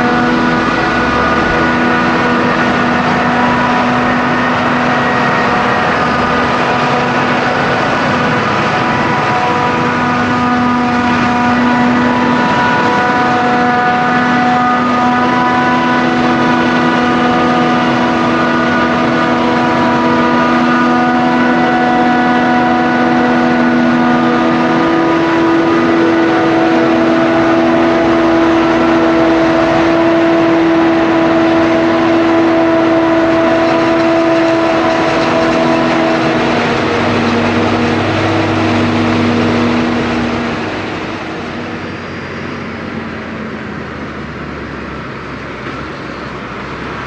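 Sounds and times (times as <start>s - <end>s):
forage harvester machine drone: 0.0s - 47.0s.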